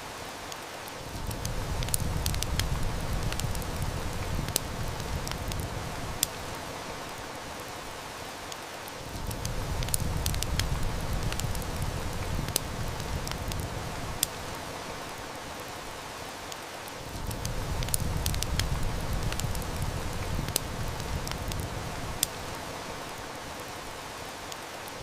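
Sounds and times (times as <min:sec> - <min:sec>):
heavy rain falling: 0:00.0 - 0:25.0
wood fire crackling: 0:00.0 - 0:25.0.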